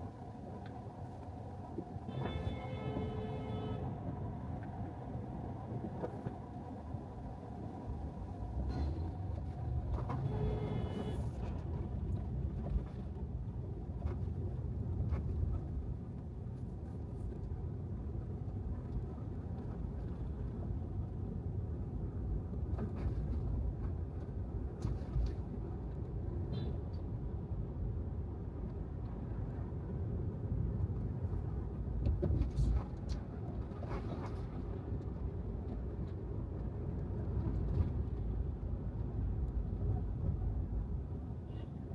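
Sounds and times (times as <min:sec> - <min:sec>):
road and tyre rumble: 0:00.0 - 0:41.9.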